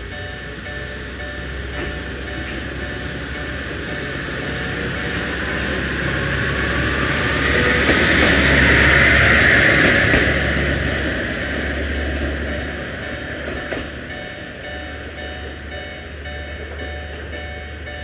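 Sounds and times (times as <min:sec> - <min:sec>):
diesel railcar running past: 0:00.0 - 0:18.0.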